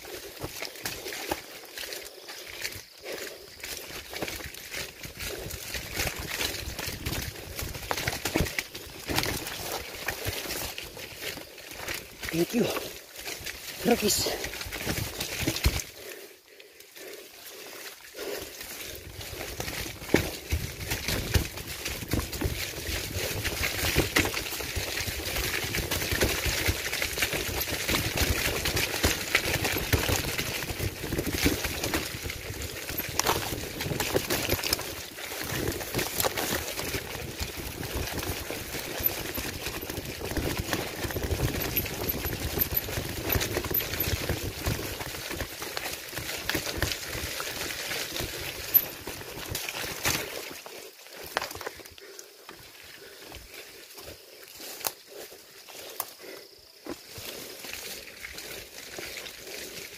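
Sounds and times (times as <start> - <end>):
bike rattling over rough trail: 0.0 - 59.9.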